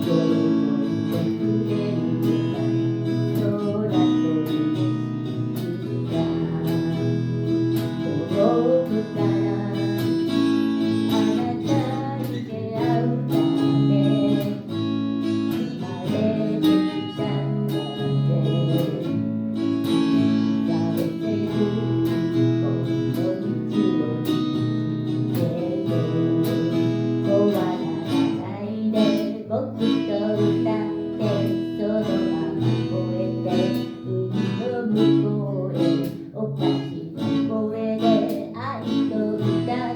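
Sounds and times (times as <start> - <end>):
acoustic guitar strumming: 0.0 - 39.9
person singing: 0.0 - 39.9.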